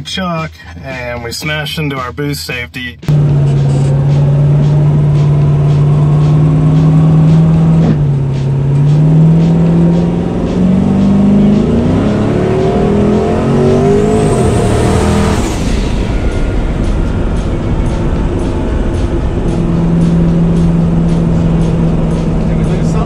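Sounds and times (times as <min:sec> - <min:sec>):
high whine: 0:00.0 - 0:23.0
car engine accelerating: 0:03.0 - 0:23.0.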